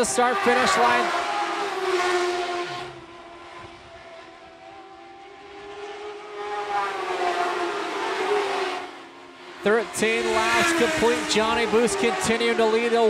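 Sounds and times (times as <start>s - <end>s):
racing cars revving engines: 0.0s - 13.0s.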